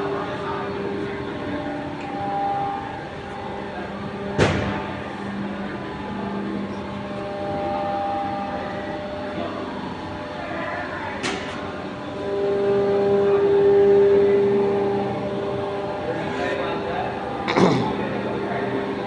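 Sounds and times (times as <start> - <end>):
machinery humming: 0.0 - 11.1, 11.7 - 19.0.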